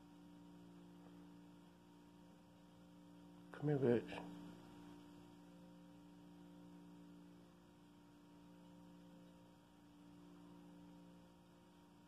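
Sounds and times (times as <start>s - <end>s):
faint hum of held tones: 0.0s - 12.0s.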